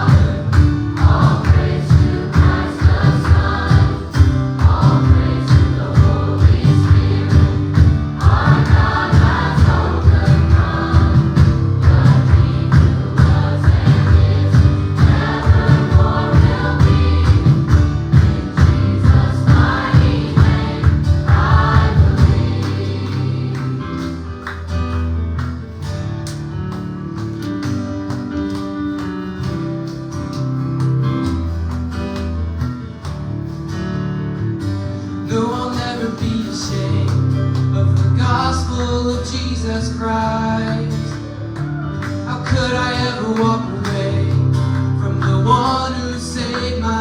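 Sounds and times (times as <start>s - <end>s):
live gospel band: 0.0s - 47.0s.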